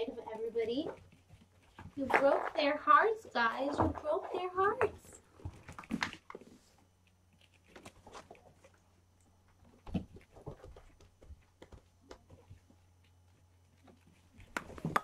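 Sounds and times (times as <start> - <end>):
kittens tapping and scratching: 0.0 - 15.0.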